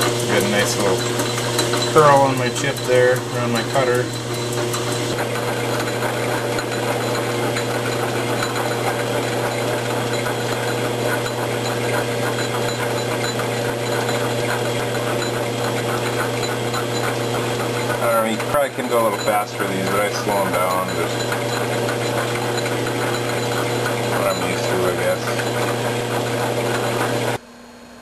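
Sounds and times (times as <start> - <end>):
cutting tool rasping: 0.0 - 27.4
lathe humming: 0.0 - 27.4.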